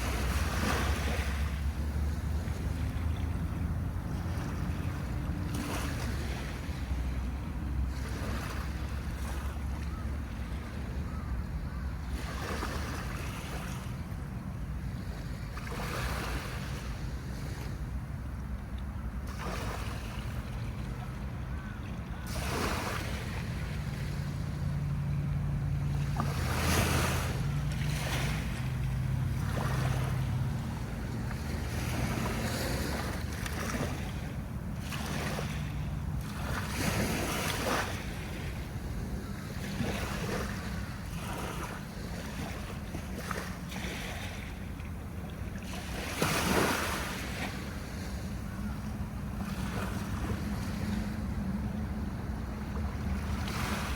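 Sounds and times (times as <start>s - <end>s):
sea waves breaking on shore: 0.0s - 53.9s.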